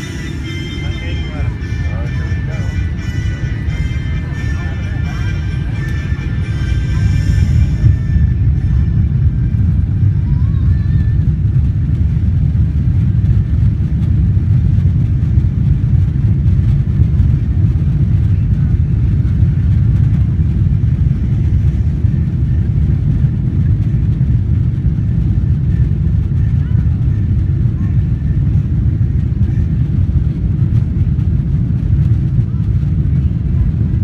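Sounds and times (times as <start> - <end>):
jet engines roaring on takeoff: 0.0 - 34.0.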